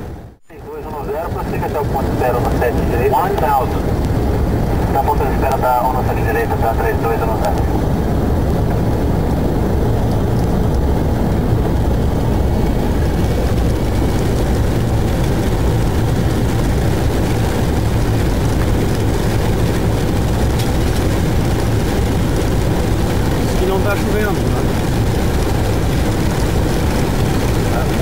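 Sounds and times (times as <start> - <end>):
airliner cockpit noise: 0.0 - 28.0.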